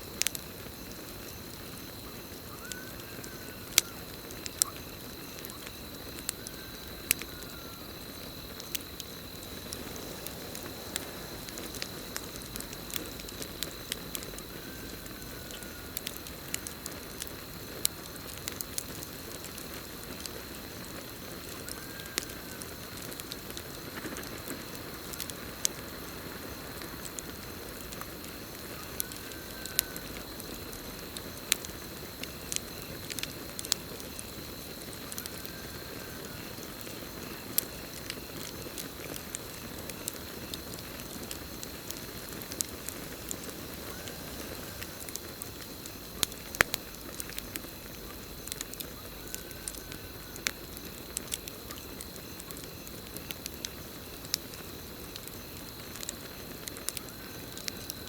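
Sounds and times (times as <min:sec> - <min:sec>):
campfire crackling: 0:00.0 - 0:58.0
cricket trill: 0:00.0 - 0:58.0.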